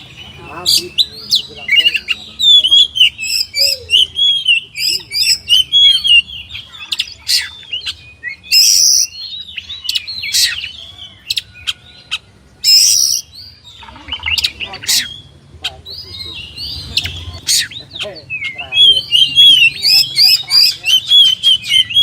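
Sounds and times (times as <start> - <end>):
bird singing warbling notes: 0.0 - 22.0
harsh rasping bird calls: 0.0 - 22.0.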